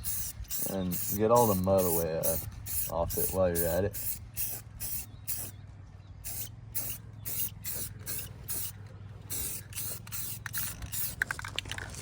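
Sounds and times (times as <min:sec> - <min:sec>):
spray paint can hissing: 0:00.0 - 0:05.6, 0:06.2 - 0:11.4.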